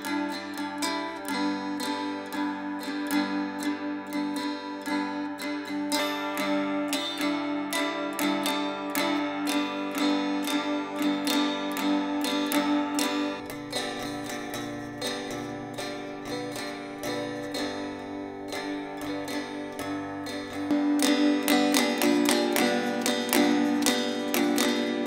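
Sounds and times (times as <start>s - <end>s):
guitar strumming: 0.0s - 25.0s.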